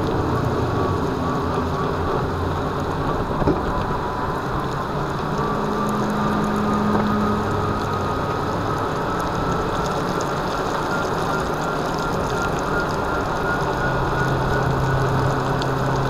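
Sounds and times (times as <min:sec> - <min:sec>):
high electric motor whine: 0:00.0 - 0:16.0
low hum: 0:00.0 - 0:16.0.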